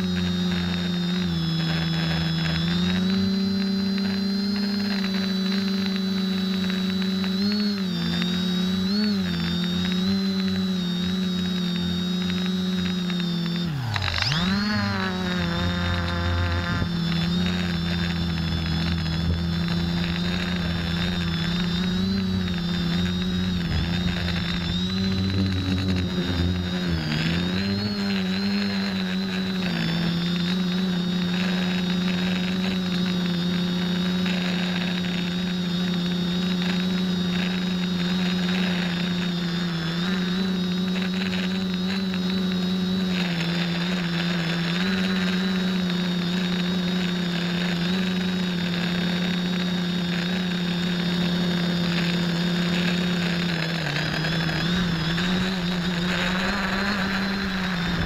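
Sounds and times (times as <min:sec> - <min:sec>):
quadcopter propellers humming: 0:00.0 - 0:58.0.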